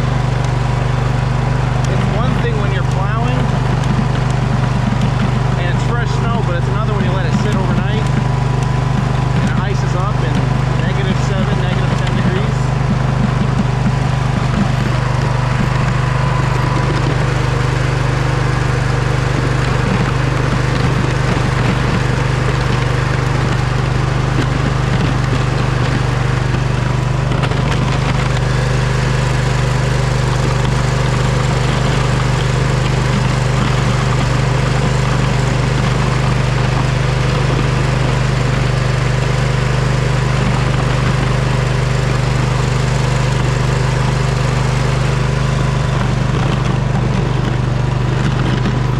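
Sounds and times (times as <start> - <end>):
riding mower engine running: 0.0 - 48.9.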